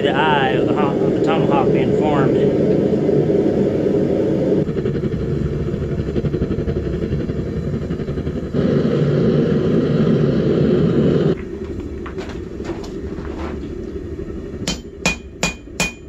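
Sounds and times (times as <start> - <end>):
gas forge burner rumbling: 0.0 - 16.0.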